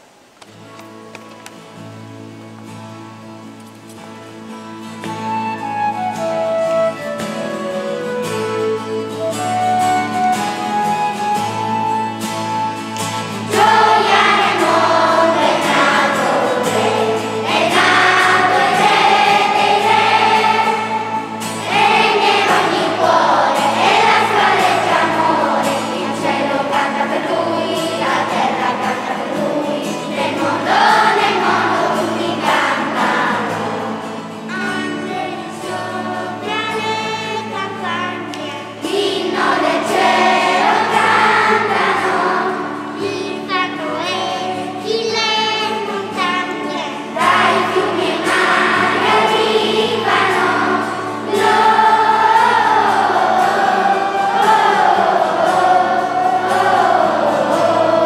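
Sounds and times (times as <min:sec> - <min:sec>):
instrumental melody: 0:00.6 - 0:58.0
children's choir singing: 0:05.0 - 0:58.0.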